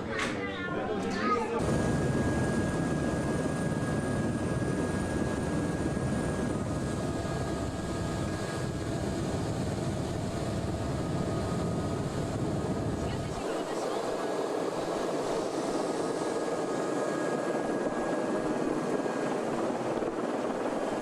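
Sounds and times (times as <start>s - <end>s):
helicopter rotor and turbine: 1.6s - 21.0s.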